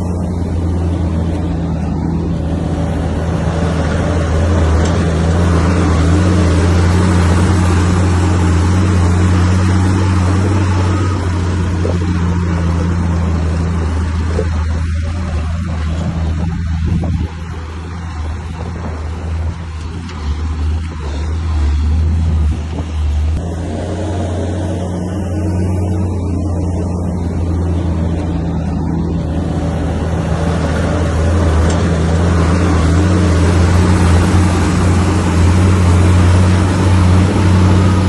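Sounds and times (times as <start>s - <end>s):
bulldozer diesel engine droning: 0.0s - 38.0s.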